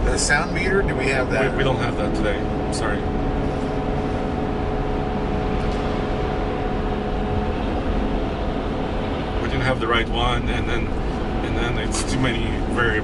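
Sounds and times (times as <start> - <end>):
diesel engine drone inside cab: 0.0 - 13.0
steady whine: 0.0 - 13.0.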